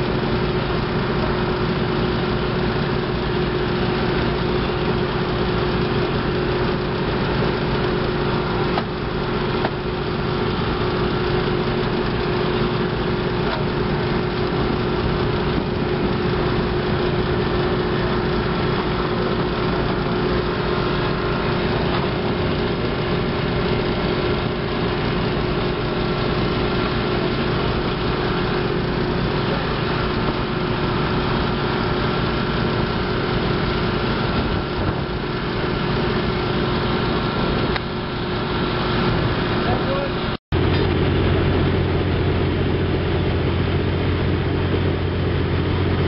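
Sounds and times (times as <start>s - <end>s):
small gasoline engine running: 0.0s - 46.0s.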